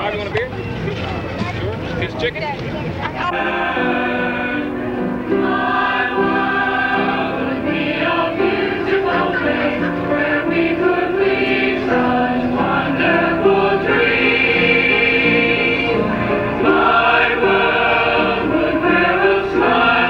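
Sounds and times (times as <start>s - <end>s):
women's choir singing: 3.2s - 20.0s.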